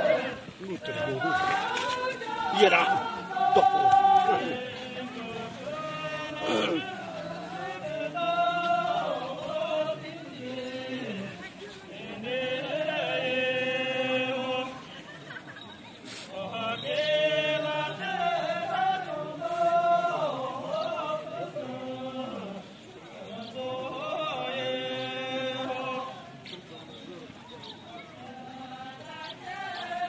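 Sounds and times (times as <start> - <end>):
group of voices singing: 0.0 - 15.4, 16.0 - 26.6, 27.9 - 30.0.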